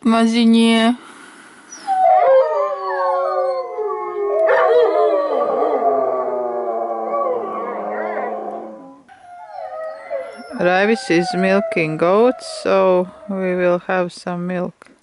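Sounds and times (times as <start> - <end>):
dogs howling together: 1.7 - 13.8.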